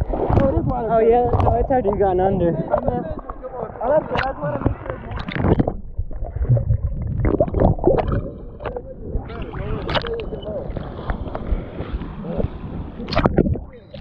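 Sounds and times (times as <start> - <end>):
water gurgling over microphone: 0.0 - 14.0.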